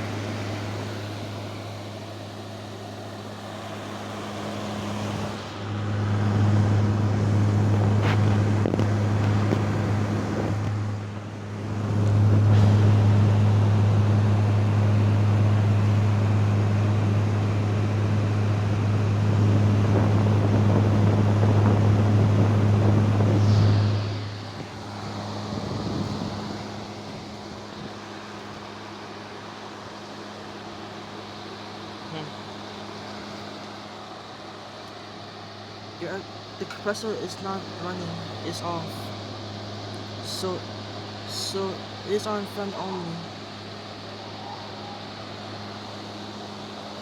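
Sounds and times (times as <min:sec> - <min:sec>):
air conditioner compressor hum: 0:00.0 - 0:47.0
air conditioner fan rushing air: 0:00.0 - 0:47.0
faint high whine: 0:00.0 - 0:47.0.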